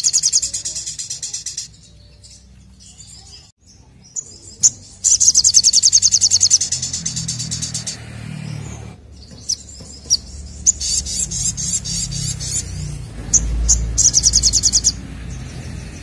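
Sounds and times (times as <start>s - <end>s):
bird singing high trills: 0.0s - 16.0s.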